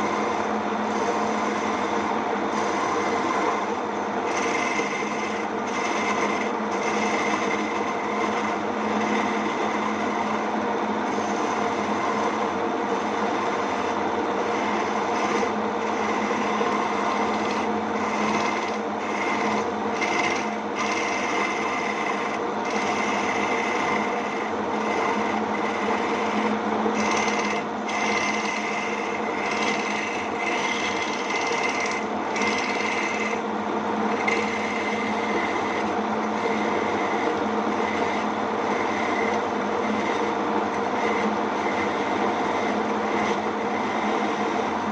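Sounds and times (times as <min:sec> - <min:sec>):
lathe motor running: 0:00.0 - 0:44.9
tool scraping spinning wood: 0:00.0 - 0:44.9.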